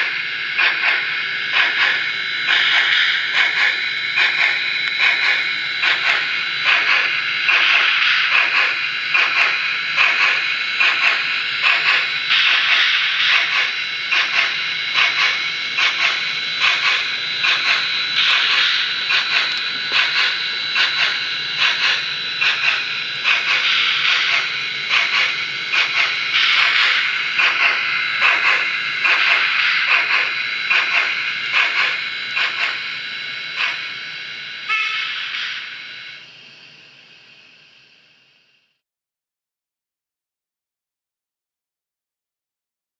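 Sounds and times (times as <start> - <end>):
steam exhaust chuffs from speaker: 0.0 - 36.2.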